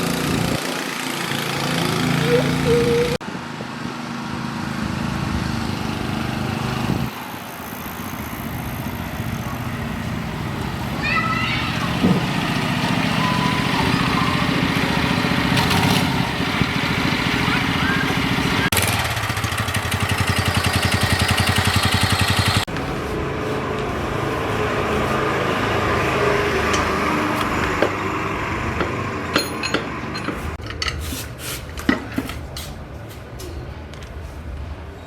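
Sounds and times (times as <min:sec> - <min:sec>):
go-kart engine running: 0:00.0 - 0:30.1.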